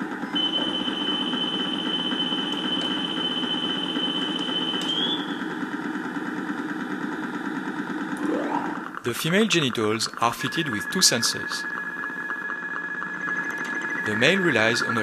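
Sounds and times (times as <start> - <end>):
steady mechanical hum: 0.0 - 15.0
high electronic tone: 0.2 - 5.4, 8.1 - 15.0.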